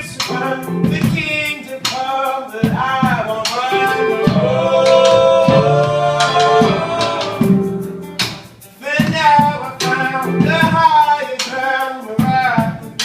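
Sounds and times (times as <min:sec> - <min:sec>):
instrumental accompaniment: 0:00.0 - 0:13.0
regular rhythmic beat: 0:00.0 - 0:13.0.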